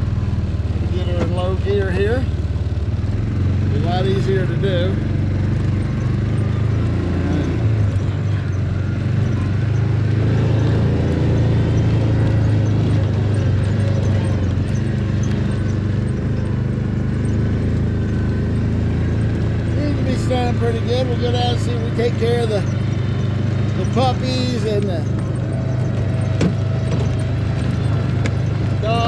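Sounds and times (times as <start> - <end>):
utility vehicle engine running: 0.0 - 29.0.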